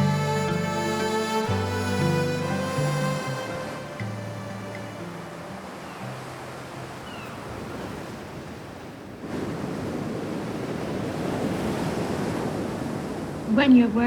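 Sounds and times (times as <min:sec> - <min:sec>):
ocean surf: 0:00.0 - 0:14.0.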